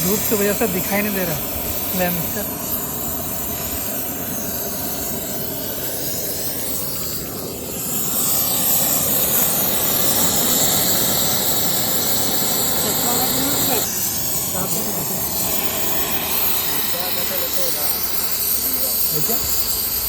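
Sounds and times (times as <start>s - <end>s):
cutting torch hissing: 0.0s - 20.0s.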